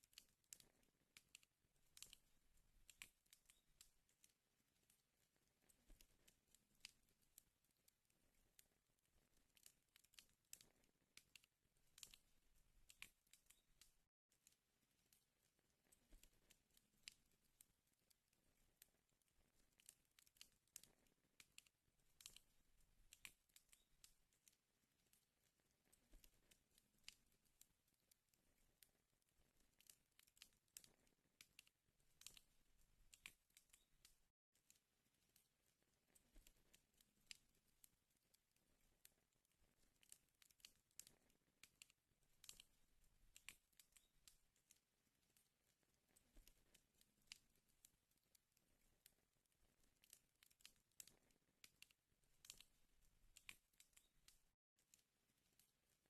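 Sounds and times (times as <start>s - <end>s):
wood fire crackling and popping: 0.0s - 34.3s, 35.2s - 37.7s, 38.6s - 47.6s, 49.5s - 54.5s.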